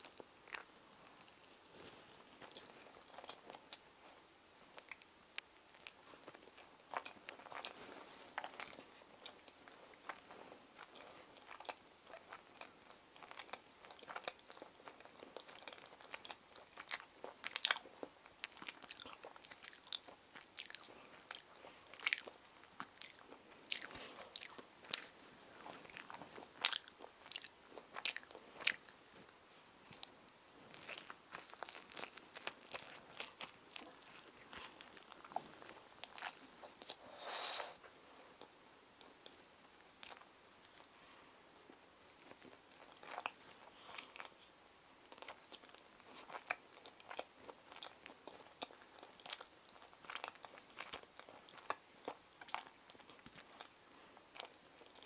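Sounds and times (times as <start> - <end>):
child chewing sandwich: 0.0 - 41.1, 41.7 - 55.0.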